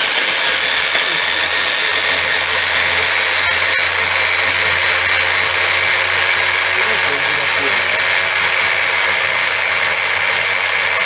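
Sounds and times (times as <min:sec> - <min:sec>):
electric chopper motor whirring: 0:00.0 - 0:11.0.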